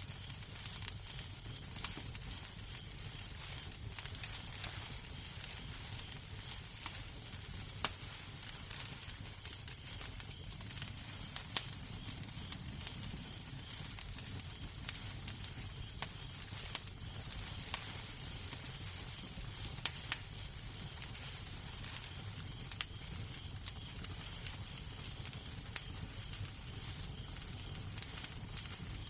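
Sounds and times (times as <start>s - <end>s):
fireplace crackling: 0.0s - 29.0s.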